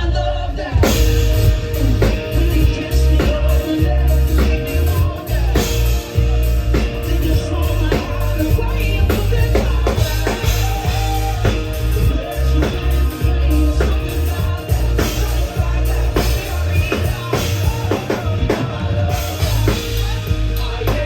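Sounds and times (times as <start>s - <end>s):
drum kit steady beat: 0.6s - 21.0s
live rock band playing: 0.6s - 21.0s.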